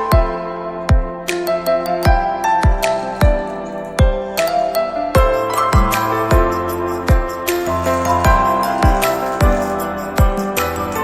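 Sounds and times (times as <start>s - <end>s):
soft new-age instrumental music: 0.0s - 11.0s.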